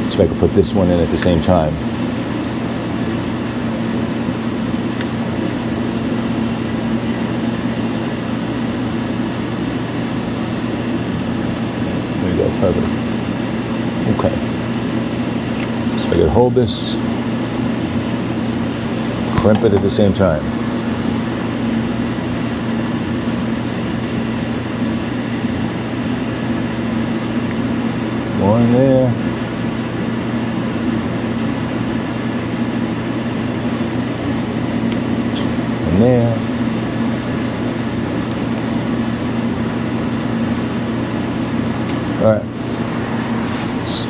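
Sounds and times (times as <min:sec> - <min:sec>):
machine droning hum: 0:00.0 - 0:44.0.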